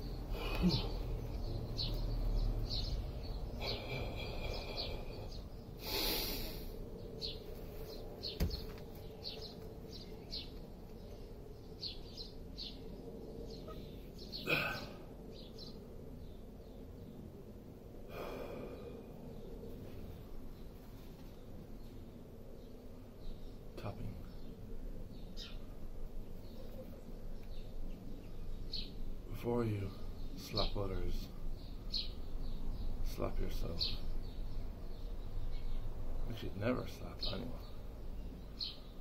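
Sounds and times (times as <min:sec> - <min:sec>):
outdoor background noise: 0:00.0 - 0:39.0
small birds chirping: 0:00.0 - 0:39.0.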